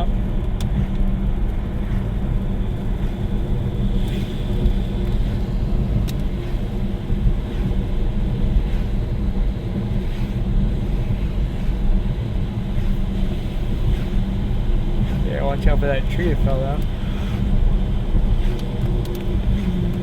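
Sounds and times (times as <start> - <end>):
car road rumble and tyre noise: 0.0 - 20.0.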